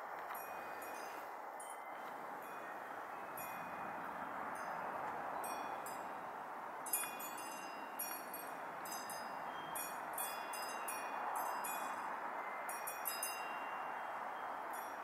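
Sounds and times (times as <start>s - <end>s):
metal wind chimes ringing: 0.3s - 6.2s, 6.8s - 15.0s.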